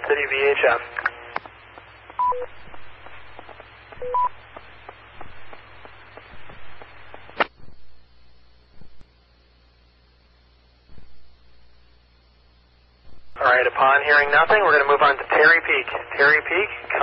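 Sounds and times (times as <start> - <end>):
radio channel hiss: 0.0 - 9.1, 10.9 - 17.0.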